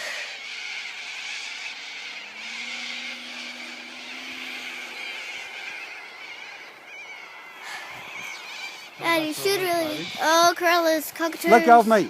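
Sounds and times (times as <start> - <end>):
model plane engine drone: 0.0 - 10.1
flock of birds screeching: 0.0 - 12.0
wavering bird calls: 0.0 - 12.0.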